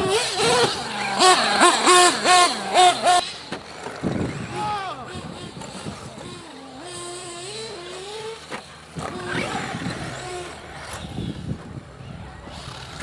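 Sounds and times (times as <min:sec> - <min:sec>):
rc buggy engine whining: 0:00.0 - 0:13.0.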